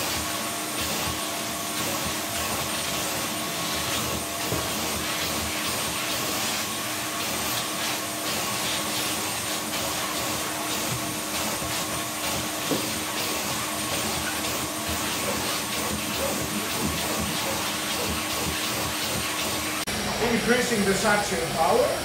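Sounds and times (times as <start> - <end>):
vacuum cleaner whine: 0.0 - 22.0.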